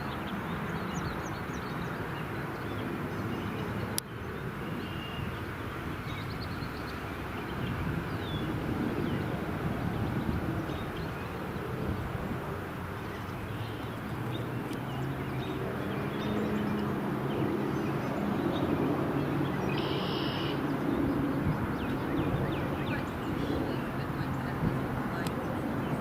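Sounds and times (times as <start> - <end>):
small birds chirping: 0.0 - 11.8, 12.7 - 26.0
airplane engine hum: 0.0 - 26.0.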